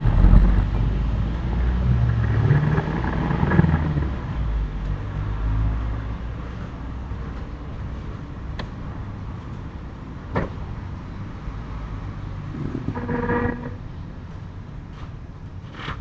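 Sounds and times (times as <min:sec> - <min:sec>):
low engine-like rumble: 0:00.0 - 0:15.8.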